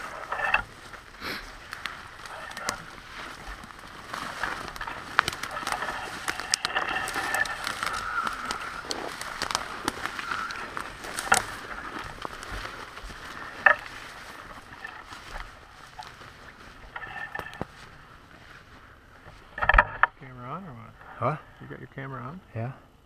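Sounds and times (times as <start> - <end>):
footsteps through dry grass: 0.0 - 21.6.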